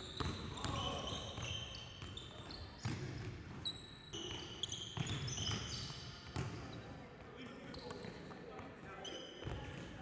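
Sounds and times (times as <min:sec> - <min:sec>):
sneakers squeaking: 0:00.0 - 0:10.0.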